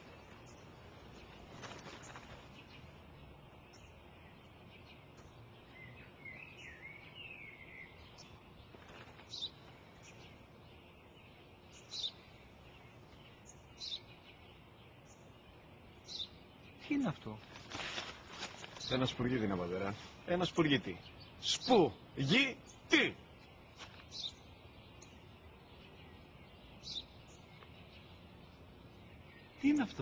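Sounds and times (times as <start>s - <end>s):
sparrow chirping: 0.0s - 17.6s, 18.4s - 30.0s
warbling birdsong: 0.0s - 30.0s.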